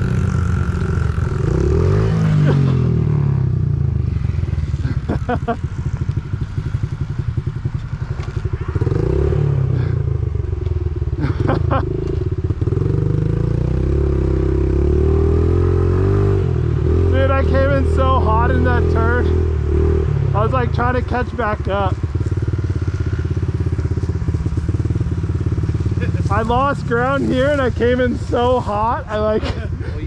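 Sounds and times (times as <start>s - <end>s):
mini bike engine revving: 0.0s - 7.1s, 8.1s - 10.1s, 11.2s - 29.4s.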